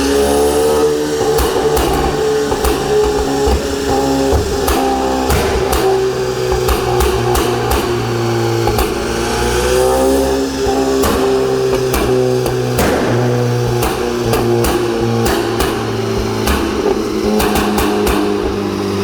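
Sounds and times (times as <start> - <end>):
car engine at low revs: 0.0 - 19.0
exhaust pops and crackles: 0.0 - 19.0.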